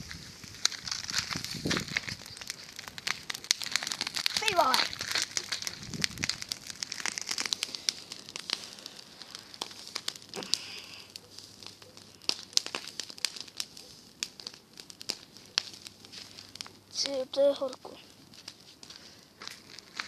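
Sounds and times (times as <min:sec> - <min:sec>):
bonfire crackling and popping: 0:00.0 - 0:20.0
fire hiss: 0:00.0 - 0:20.0.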